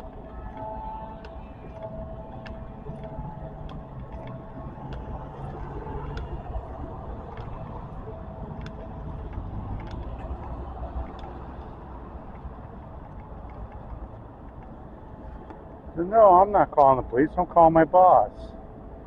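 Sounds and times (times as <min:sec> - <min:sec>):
motor vehicles running: 0:00.0 - 0:19.0.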